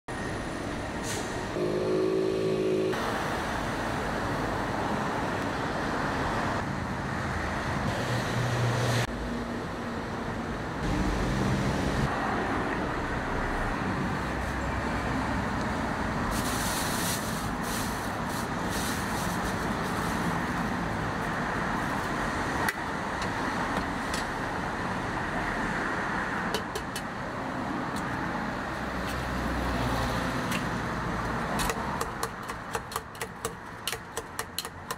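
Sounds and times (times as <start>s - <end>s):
street traffic of passing cars: 0.1s - 34.9s.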